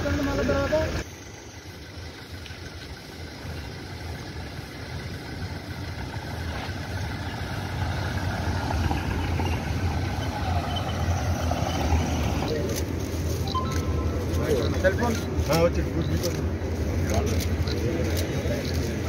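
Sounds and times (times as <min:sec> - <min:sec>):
cars driving on paved road: 0:00.0 - 0:19.0.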